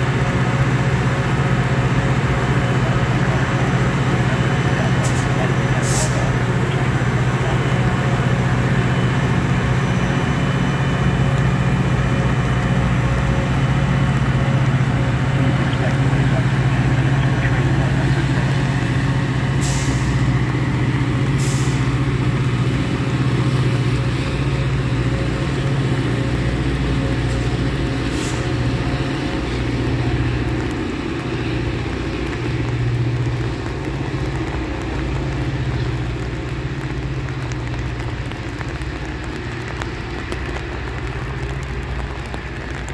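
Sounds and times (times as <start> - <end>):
diesel locomotive drone: 0.0 - 42.9.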